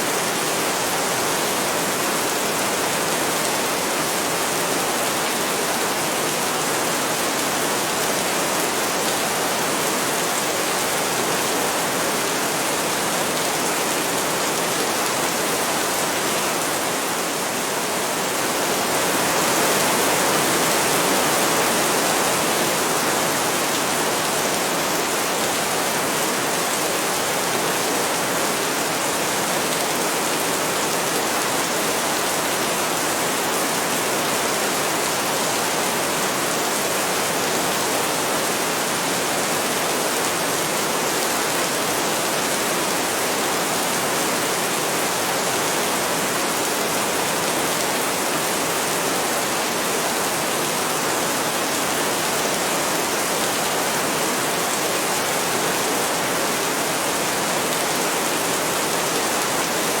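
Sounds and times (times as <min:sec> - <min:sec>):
heavy rain falling: 0:00.0 - 1:00.0.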